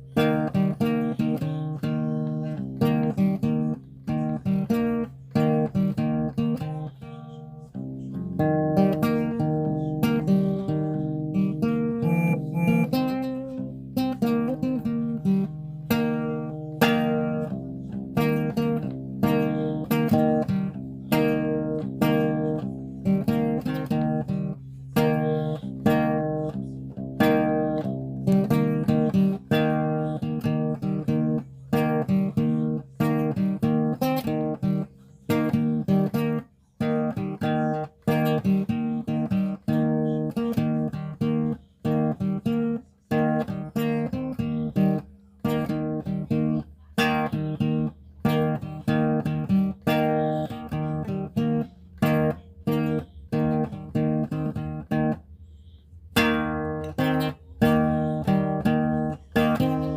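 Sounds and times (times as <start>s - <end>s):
acoustic guitar instrumental: 0.0s - 59.9s.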